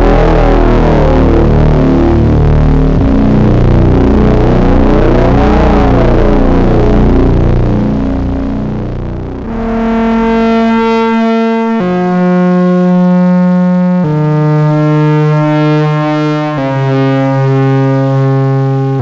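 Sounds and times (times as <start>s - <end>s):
synthesizer held notes: 0.0s - 19.0s.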